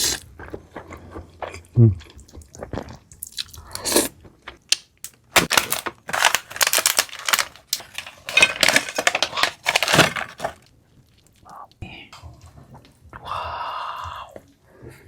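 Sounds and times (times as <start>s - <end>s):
person chewing crunchy food: 0.0s - 14.6s.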